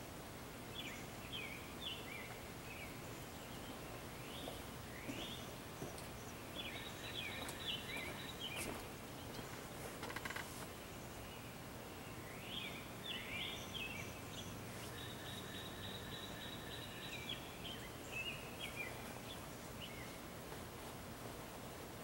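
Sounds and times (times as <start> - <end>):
outdoor background hiss: 0.0 - 22.0
birds chirping: 0.7 - 20.4.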